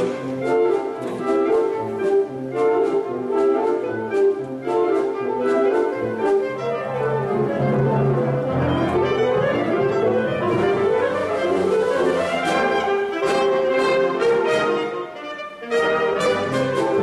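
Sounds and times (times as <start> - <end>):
saxophone ensemble playing: 0.0 - 17.0.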